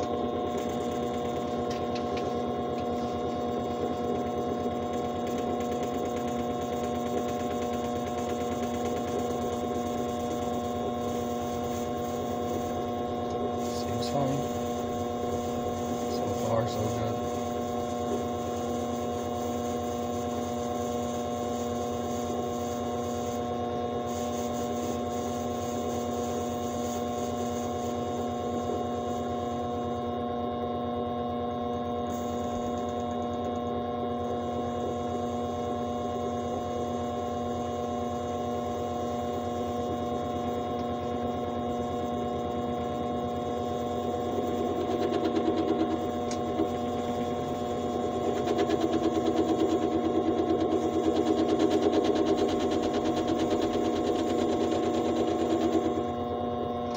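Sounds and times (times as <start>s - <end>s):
metal lathe humming and whining: 0.0s - 56.9s.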